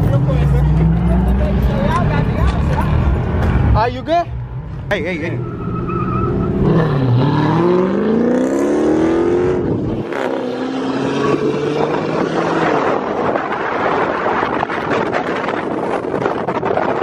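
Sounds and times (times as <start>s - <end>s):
car engine accelerating: 0.0s - 3.8s, 4.4s - 16.6s
road and wind noise: 0.0s - 17.0s.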